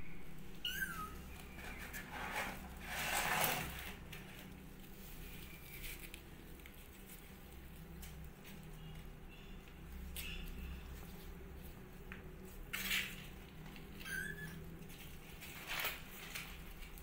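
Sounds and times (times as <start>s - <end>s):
plastic bag rustling: 1.2s - 9.2s, 10.9s - 17.0s.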